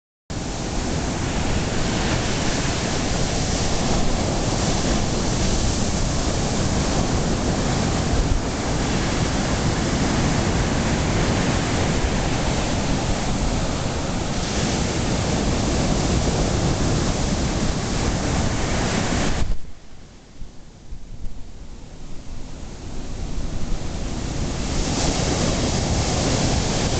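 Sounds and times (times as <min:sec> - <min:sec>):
ocean surf breaking: 0:00.4 - 0:20.4, 0:21.6 - 0:26.9
wind buffeting microphone: 0:00.4 - 0:26.9.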